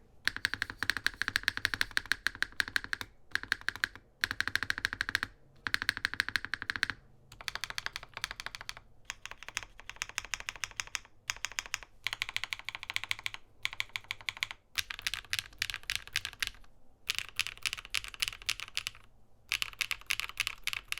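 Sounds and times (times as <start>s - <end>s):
mechanical keyboard typing: 0.2s - 20.9s.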